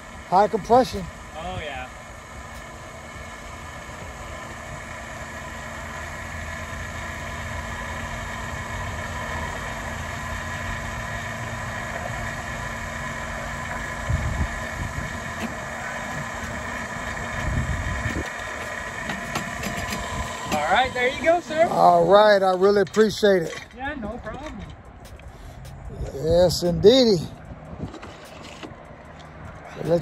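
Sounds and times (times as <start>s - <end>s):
fuel pump humming and whining: 0.0s - 30.0s.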